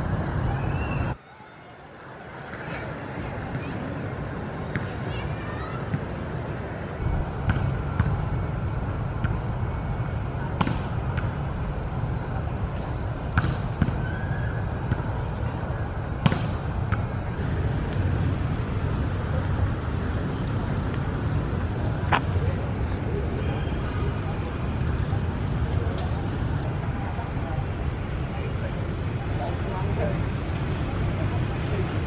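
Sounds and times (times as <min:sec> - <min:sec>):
distant city traffic rumble: 0:00.0 - 0:32.0.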